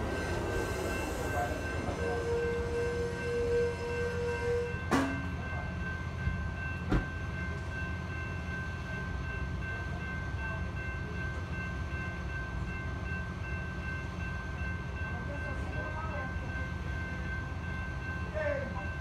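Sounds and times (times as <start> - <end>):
distant train rumble: 0.0 - 19.0.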